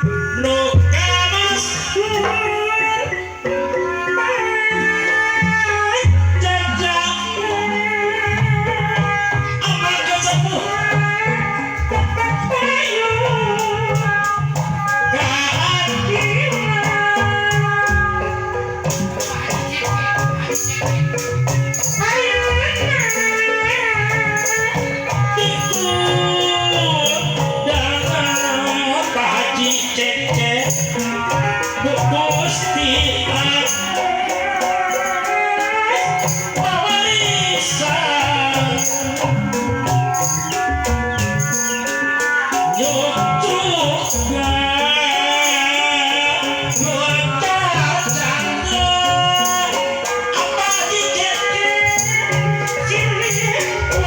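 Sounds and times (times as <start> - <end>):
hand drums and gamelan: 0.0 - 54.0
high sliding melody: 0.0 - 54.0
man singing high ornamented vocal: 0.0 - 54.0
rattling percussion: 0.0 - 54.0.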